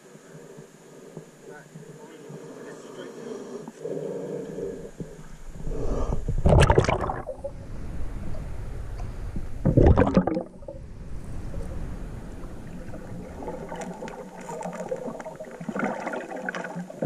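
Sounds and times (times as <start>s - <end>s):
muffled underwater rumble: 0.0s - 17.0s
water gurgling and sloshing: 0.4s - 17.0s.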